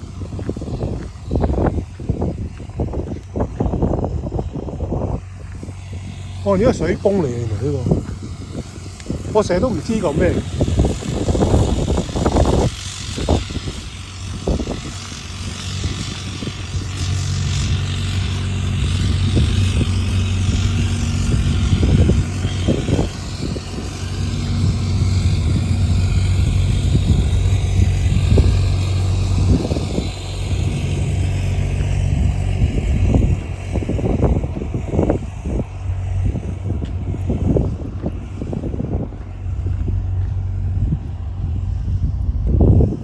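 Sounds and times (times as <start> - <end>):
water pump engine droning: 0.0 - 43.0.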